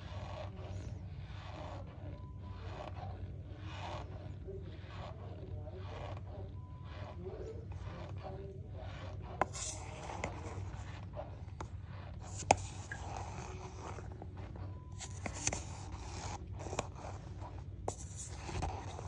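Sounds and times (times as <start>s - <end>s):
spoon scraping cornstarch: 0.0s - 19.0s.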